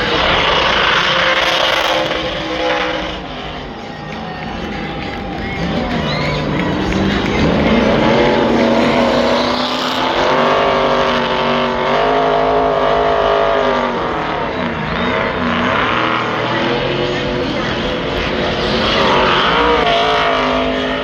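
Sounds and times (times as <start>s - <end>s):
racing truck engines passing: 0.0s - 21.0s.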